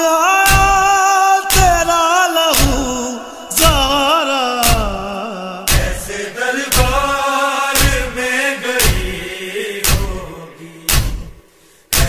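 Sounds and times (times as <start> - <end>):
men singing a lament: 0.0 - 12.0
rhythmic chest-beating thumps: 0.5 - 0.9, 1.5 - 12.0.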